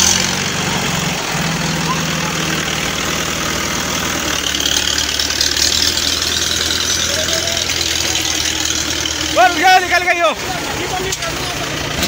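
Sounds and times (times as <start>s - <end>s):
diesel tractor engine chugging: 0.0s - 12.0s.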